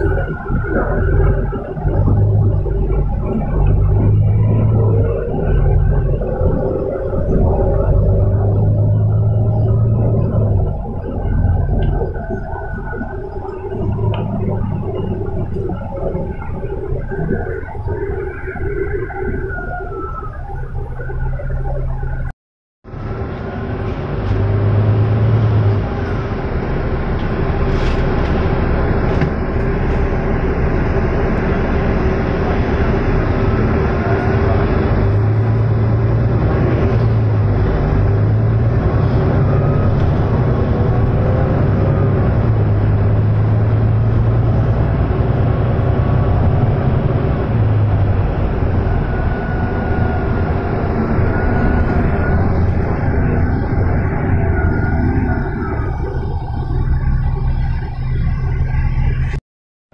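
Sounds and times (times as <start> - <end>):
bus diesel engine: 0.0 - 59.4
road noise: 0.0 - 59.4.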